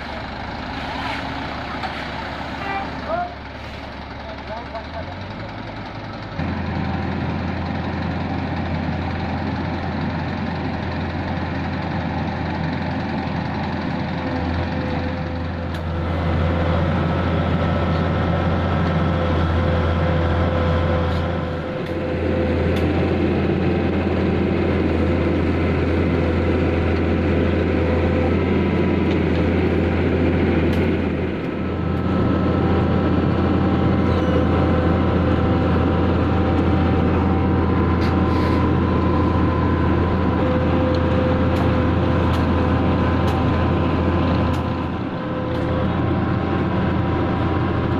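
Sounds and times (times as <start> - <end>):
heavy diesel engine humming: 0.0 - 47.9.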